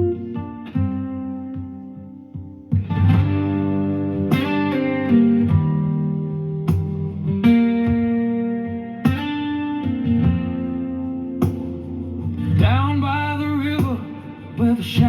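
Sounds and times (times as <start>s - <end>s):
guitar chords ringing: 0.0s - 15.0s.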